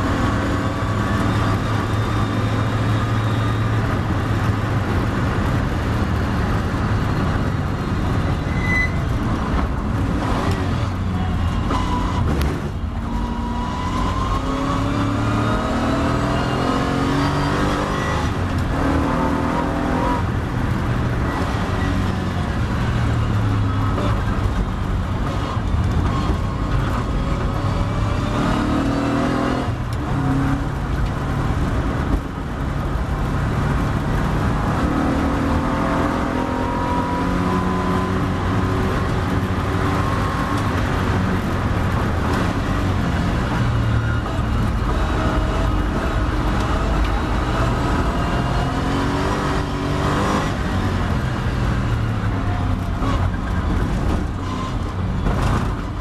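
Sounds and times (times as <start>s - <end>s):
road noise: 0.0s - 56.0s
race car engine accelerating: 9.1s - 32.3s, 33.0s - 56.0s.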